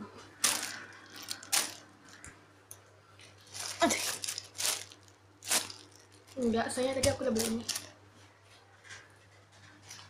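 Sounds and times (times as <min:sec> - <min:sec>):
plastic wrappers crinkling: 0:00.3 - 0:02.4, 0:03.1 - 0:10.0.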